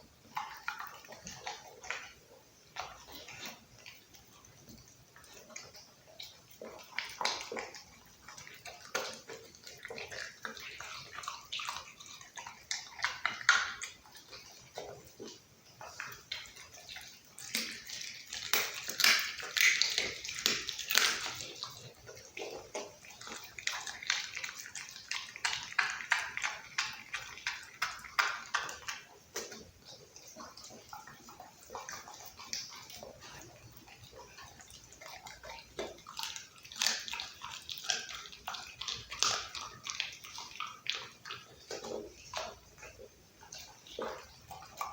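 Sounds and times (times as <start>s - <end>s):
dog chewing meat and bones: 0.0s - 44.9s.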